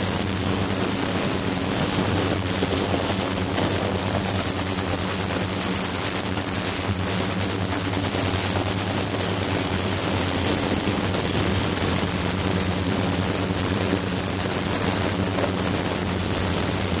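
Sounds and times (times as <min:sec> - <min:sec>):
thin high whine: 0:00.0 - 0:17.0
ultrasonic cleaner humming: 0:00.0 - 0:17.0.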